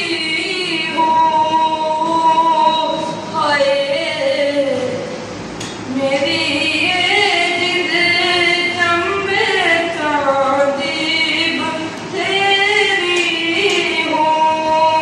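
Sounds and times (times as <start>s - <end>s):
boy singing into microphone: 0.0s - 5.1s, 5.8s - 15.0s.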